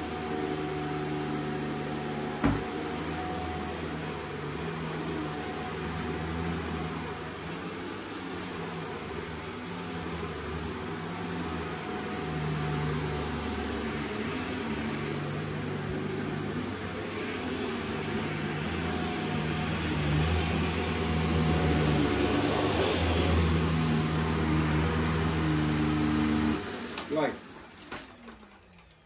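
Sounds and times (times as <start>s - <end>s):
vacuum cleaner running: 0.0s - 28.4s.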